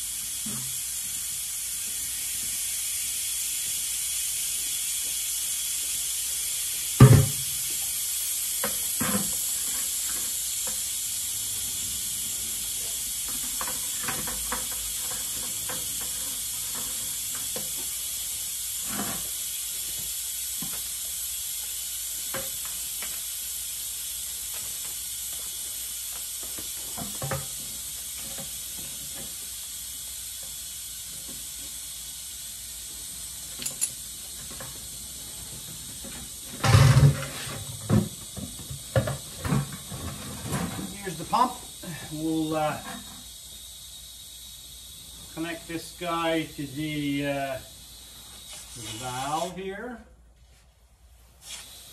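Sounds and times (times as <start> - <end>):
air hissing from tire valve: 0.0 - 51.9.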